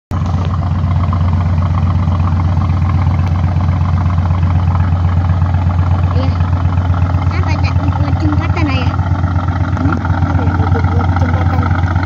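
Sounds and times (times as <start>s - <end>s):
diesel engine throbbing: 0.1s - 12.0s.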